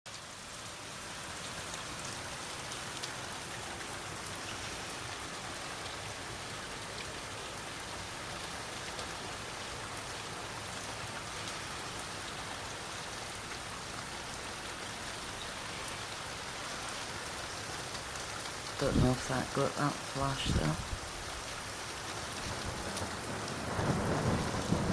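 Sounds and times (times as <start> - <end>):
raindrops ticking close by: 0.1 - 24.9
steady rain hiss: 0.1 - 24.9.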